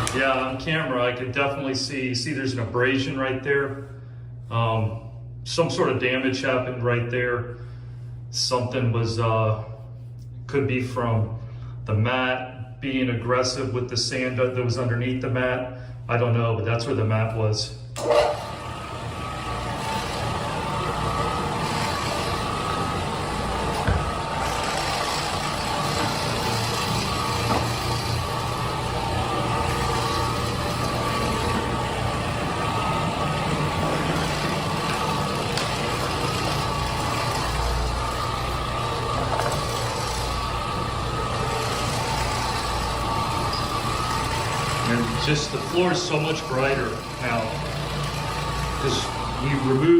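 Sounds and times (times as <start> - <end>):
floor-cleaning machine running: 0.0 - 7.1, 7.7 - 10.2, 18.0 - 49.9.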